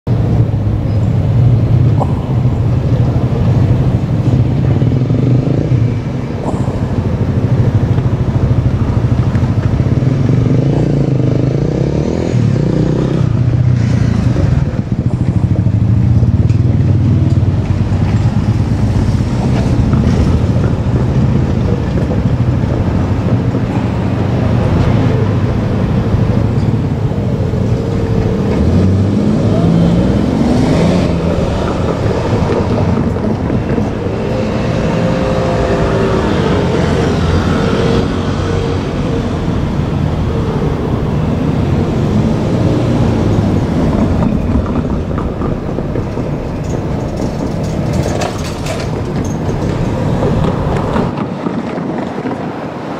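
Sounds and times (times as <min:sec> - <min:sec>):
electric train rumbling: 0:00.1 - 0:52.9.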